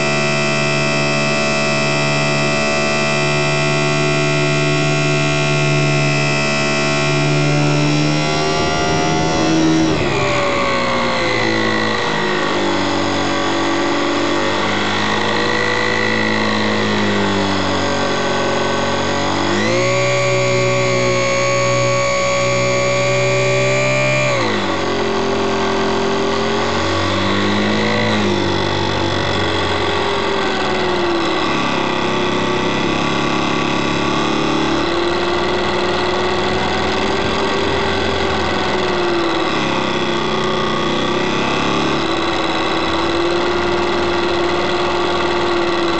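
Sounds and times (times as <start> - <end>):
model plane electric motor and propeller: 0.0 - 45.9.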